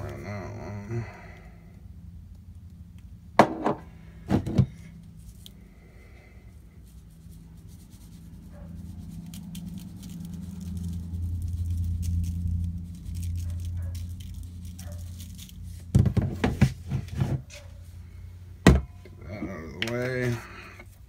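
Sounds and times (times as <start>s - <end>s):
low hum: 0.0s - 17.1s.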